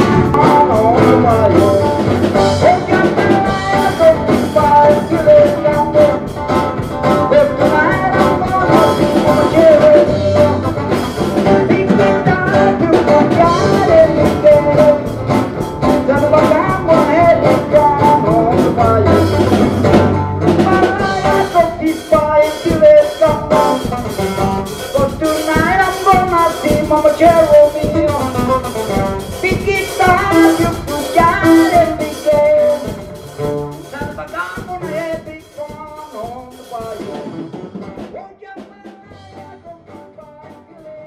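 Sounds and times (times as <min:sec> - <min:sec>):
band music with singing: 0:00.0 - 0:41.0.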